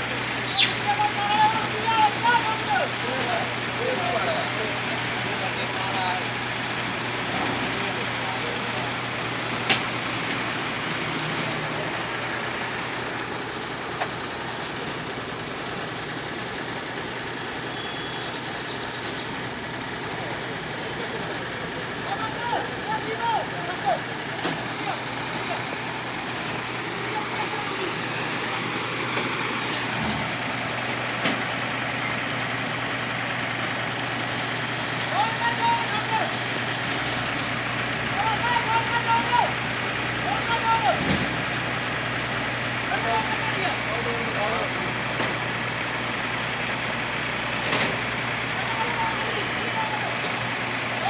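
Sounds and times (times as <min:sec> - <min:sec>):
road vehicle running: 0:00.0 - 0:51.0.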